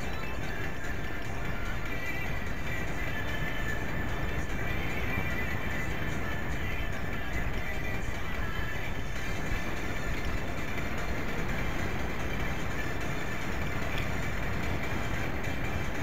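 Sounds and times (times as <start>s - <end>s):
bicycle road rumble: 0.0s - 16.0s
wind rush on microphone: 0.0s - 16.0s.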